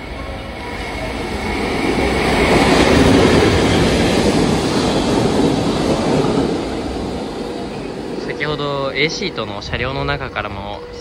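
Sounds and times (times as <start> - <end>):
electric train passing: 0.0 - 11.0.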